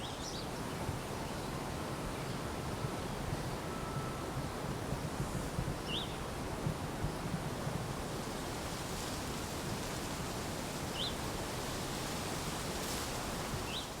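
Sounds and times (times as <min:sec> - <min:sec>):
outdoor wind: 0:00.0 - 0:14.0.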